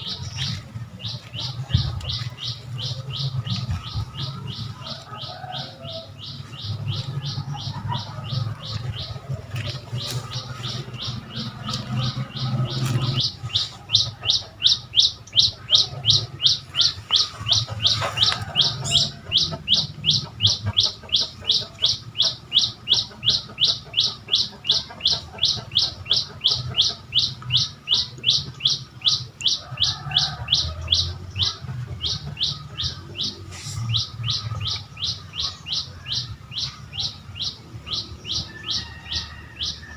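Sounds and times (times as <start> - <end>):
low steady rumble: 0.0 - 39.7.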